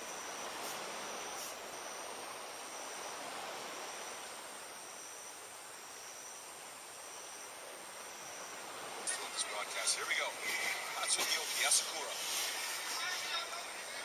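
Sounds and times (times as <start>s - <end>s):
outdoor rushing hiss: 0.0s - 14.0s.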